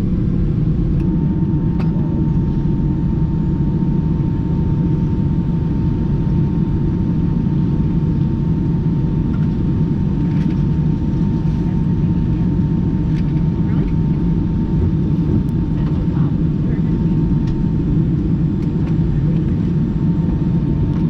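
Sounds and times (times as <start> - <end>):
airplane cabin engine rumble: 0.0 - 21.0
faint steady whine: 0.0 - 21.0.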